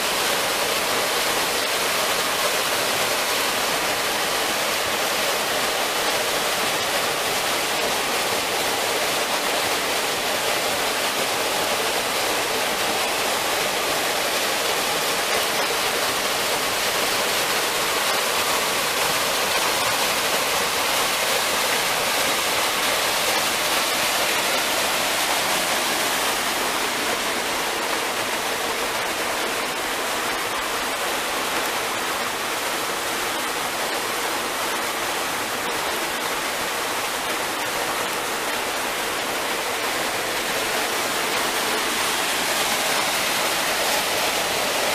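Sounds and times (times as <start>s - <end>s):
stream water over pebbles: 0.0s - 44.9s
waterfall pouring onto rock: 0.0s - 44.9s.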